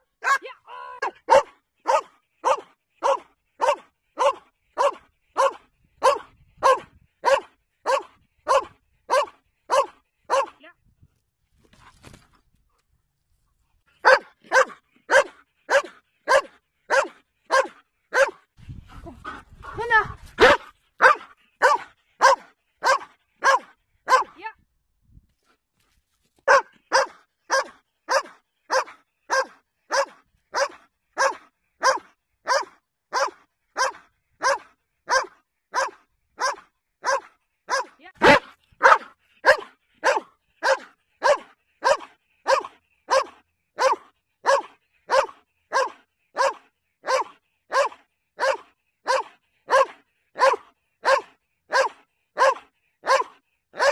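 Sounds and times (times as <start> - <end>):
dog barking: 1.0 - 10.6, 14.0 - 18.4, 20.4 - 24.4, 26.5 - 53.9.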